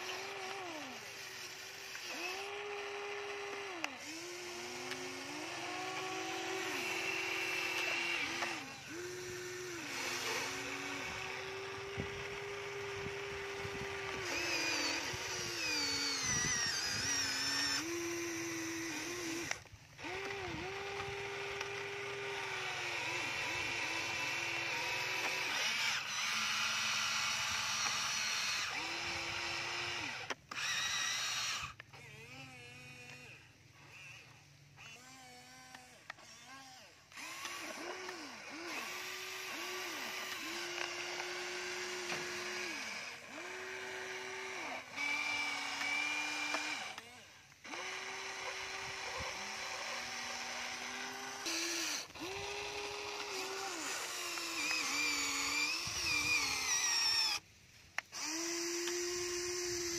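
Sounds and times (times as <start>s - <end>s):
toy excavator motors whining: 0.0s - 59.9s.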